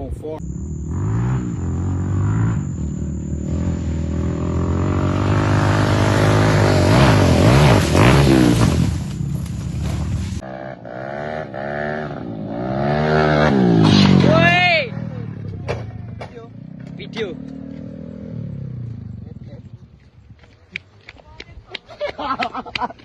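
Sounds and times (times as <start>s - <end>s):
motorcycle engines revving: 0.0s - 20.8s.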